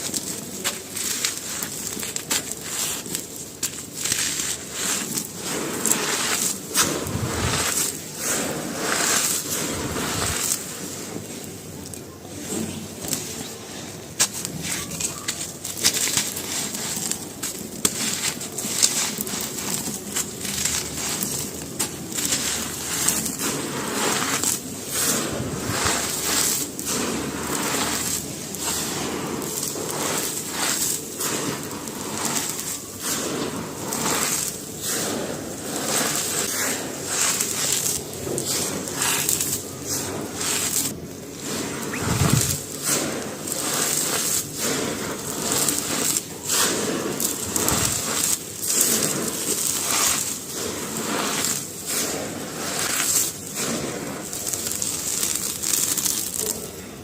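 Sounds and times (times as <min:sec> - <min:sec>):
charcoal crunched by hand: 0:00.0 - 0:56.8.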